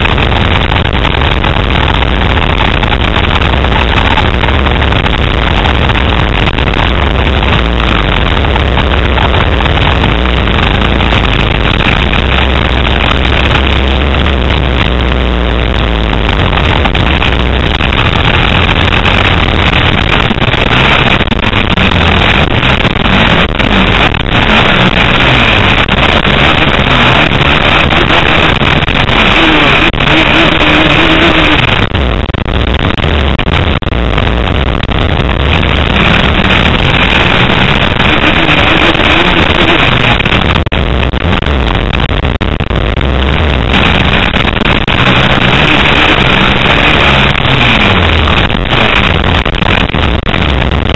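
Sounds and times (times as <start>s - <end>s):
motocross bike engine running hard: 0.0s - 50.9s
wind noise on microphone: 0.0s - 50.9s.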